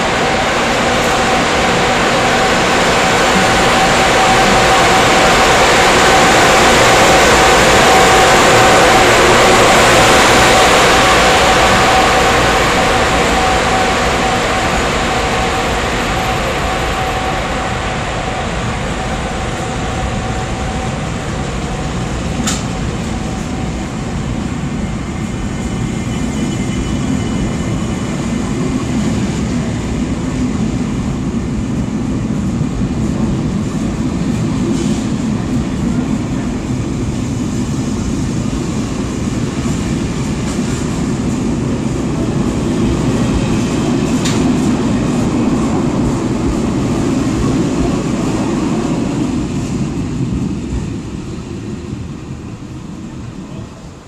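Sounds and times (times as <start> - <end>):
electric locomotive whine: 0.0 - 54.0
train wheels rumbling on rails: 0.0 - 54.0.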